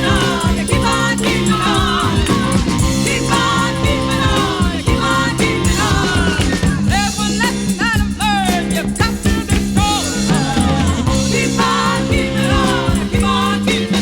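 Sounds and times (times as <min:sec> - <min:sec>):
soul funk music: 0:00.0 - 0:14.0.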